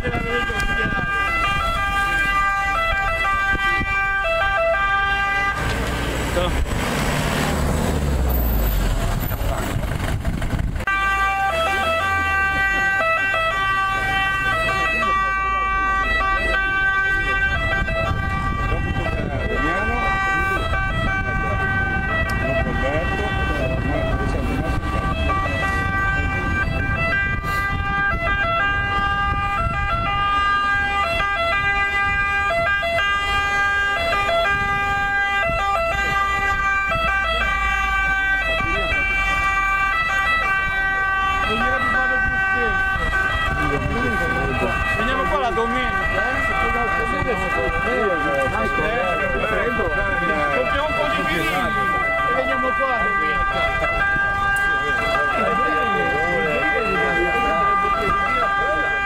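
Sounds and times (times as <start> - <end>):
electronic siren: 0.0 - 5.7, 10.9 - 59.0
ambulance engine and tyres rumbling: 0.0 - 59.0.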